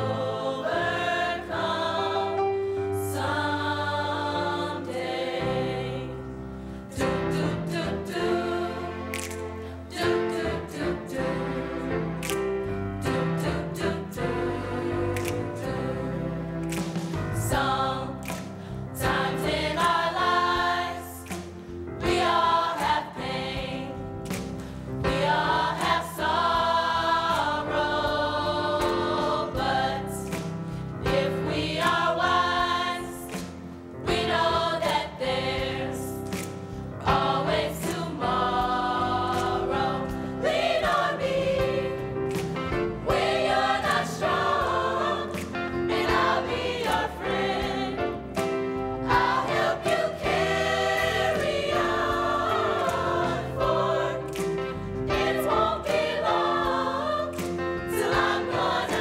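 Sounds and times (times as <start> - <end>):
choir singing: 0.0 - 24.1, 25.0 - 36.4, 37.0 - 59.0.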